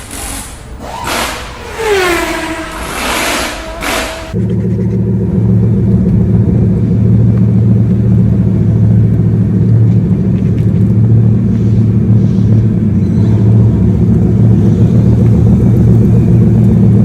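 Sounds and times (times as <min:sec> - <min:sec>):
car engine low drone: 0:00.0 - 0:17.0.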